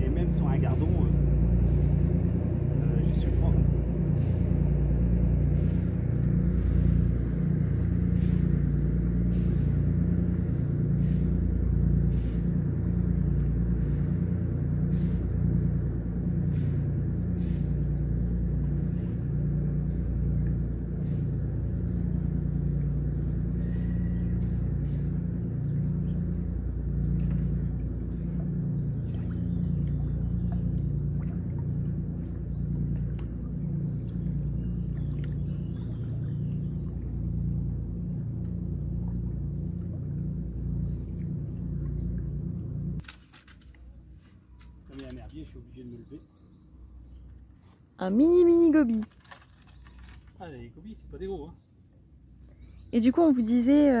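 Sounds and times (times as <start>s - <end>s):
barge diesel engine rumbling: 0.0s - 54.0s.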